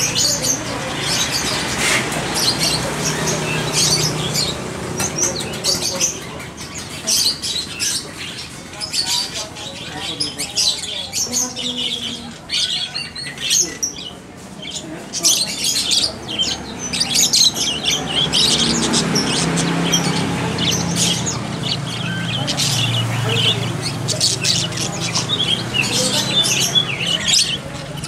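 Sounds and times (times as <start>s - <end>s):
caged songbirds chirping: 0.0s - 28.0s.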